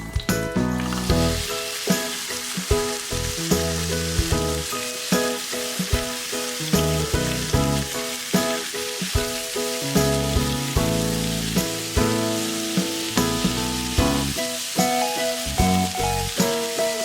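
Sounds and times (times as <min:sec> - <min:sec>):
background music with steady beat: 0:00.0 - 0:17.0
food sizzling in hot oil: 0:00.7 - 0:17.0.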